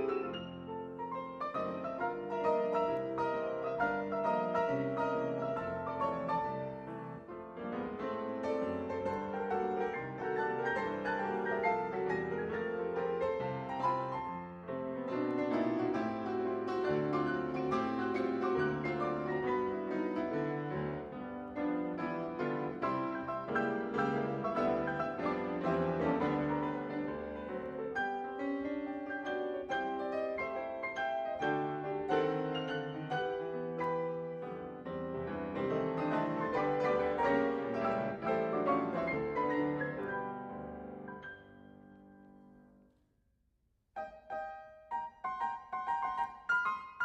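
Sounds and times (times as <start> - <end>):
ragtime piano: 0.0 - 42.3, 44.0 - 47.0.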